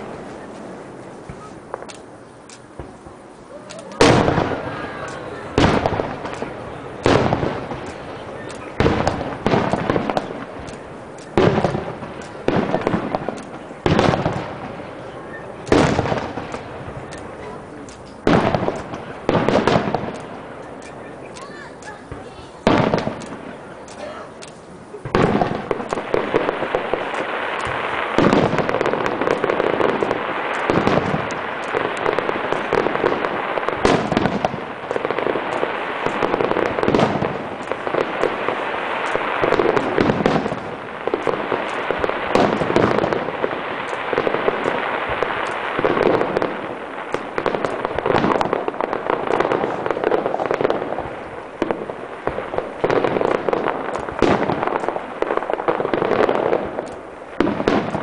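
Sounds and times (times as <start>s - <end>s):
fireworks bangs and pops: 0.0s - 58.0s.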